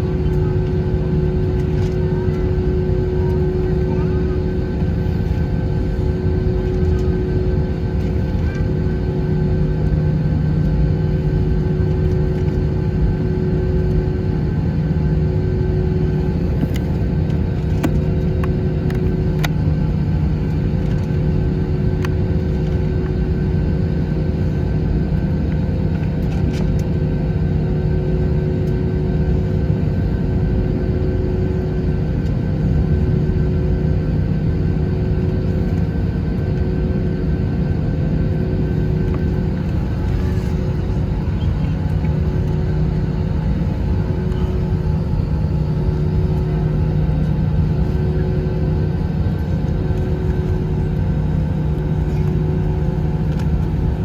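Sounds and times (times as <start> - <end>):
jet engines idling: 0.0 - 26.9, 29.3 - 54.0.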